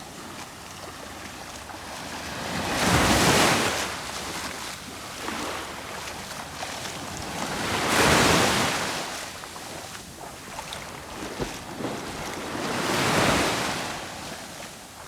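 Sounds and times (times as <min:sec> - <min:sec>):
sea waves breaking on shore: 0:00.0 - 0:15.0.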